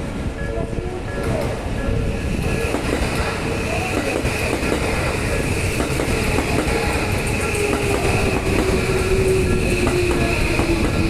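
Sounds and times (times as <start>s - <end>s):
low tone under train: 0.0s - 11.0s
train wheels rumbling on rails: 0.0s - 11.0s.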